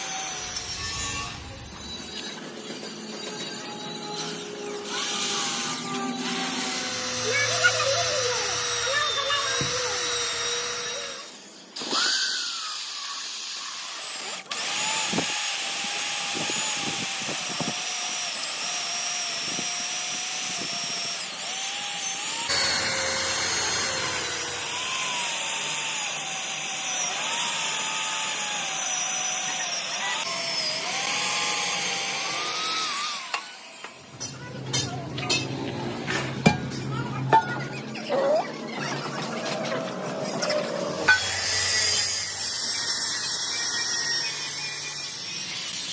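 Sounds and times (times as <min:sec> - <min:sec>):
electric power tool on metal: 0:00.0 - 0:36.9, 0:38.7 - 0:45.9.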